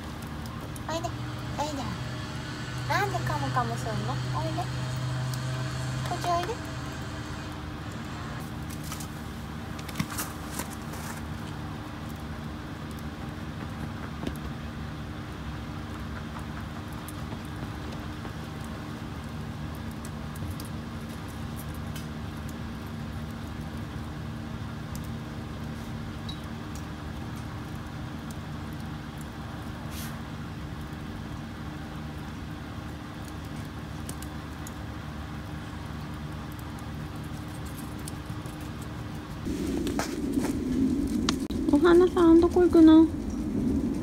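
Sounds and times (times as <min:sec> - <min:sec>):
low motor hum: 0:00.0 - 0:29.7, 0:34.2 - 0:44.0.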